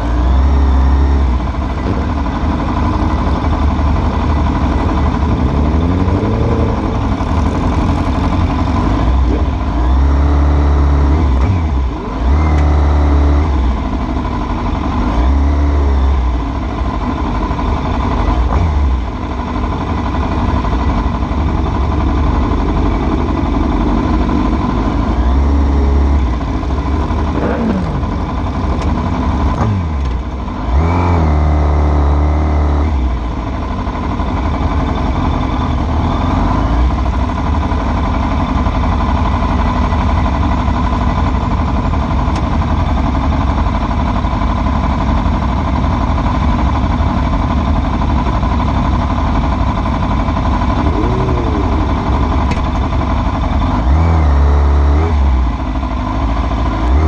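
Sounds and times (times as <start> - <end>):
motorcycle engine low rumble: 0.0 - 57.0
motorcycles revving: 0.0 - 57.0.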